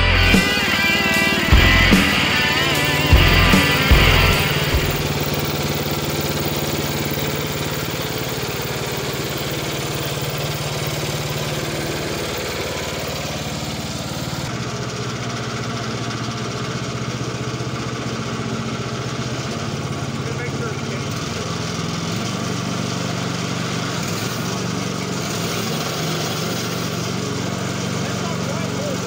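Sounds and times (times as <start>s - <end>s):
gas engine running: 0.0s - 29.0s.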